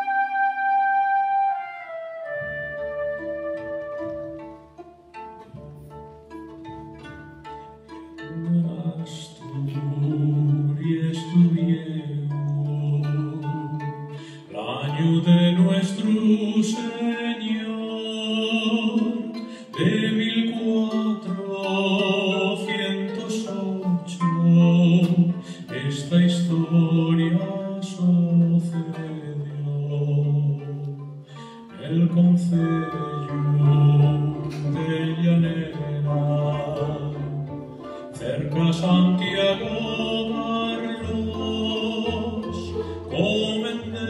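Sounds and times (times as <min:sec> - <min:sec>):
plucked harp-psaltery: 0:00.0 - 0:44.0
string orchestra: 0:00.0 - 0:44.0
man singing: 0:08.2 - 0:44.0.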